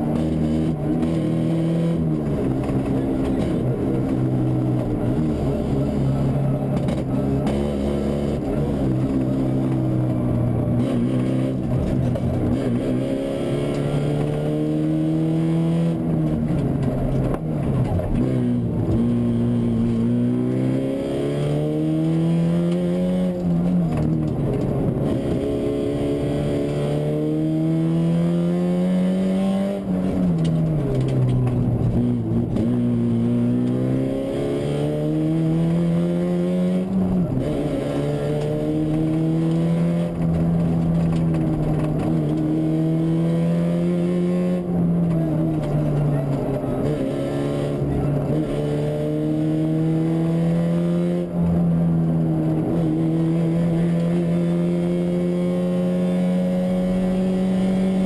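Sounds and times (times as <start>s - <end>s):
rally car engine at speed: 0.0s - 58.0s.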